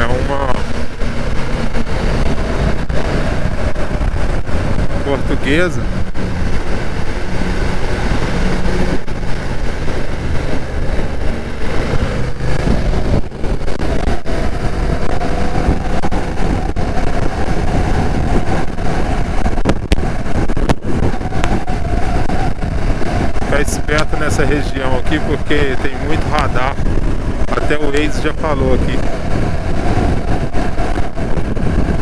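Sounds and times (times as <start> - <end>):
motorcycle engine running: 0.0 - 32.0
steady high whine: 0.0 - 32.0
wind noise on microphone: 0.0 - 32.0.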